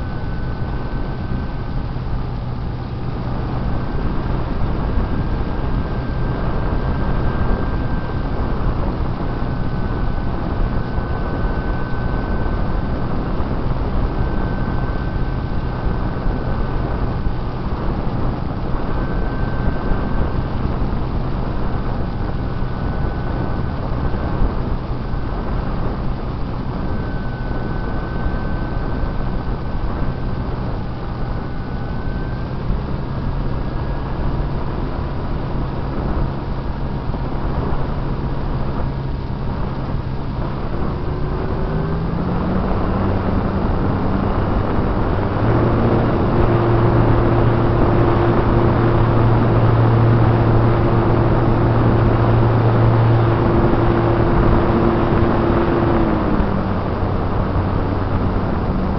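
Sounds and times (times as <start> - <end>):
model plane motor drone: 0.0 - 58.9.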